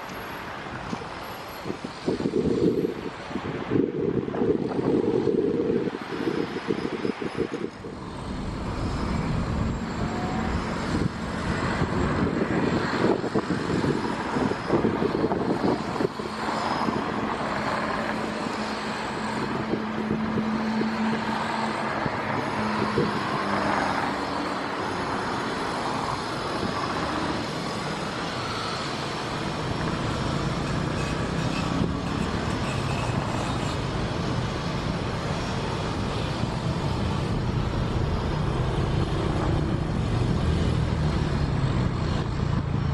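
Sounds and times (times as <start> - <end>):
passing vehicle engines: 0.0 - 42.9.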